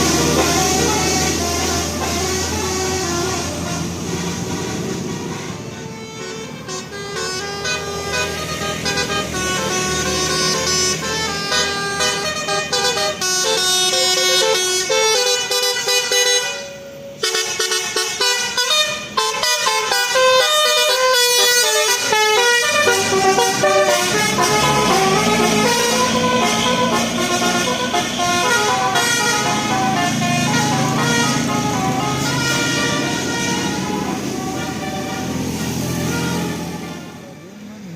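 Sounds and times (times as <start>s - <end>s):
bus horn playing a quick tune: 0.0s - 37.9s.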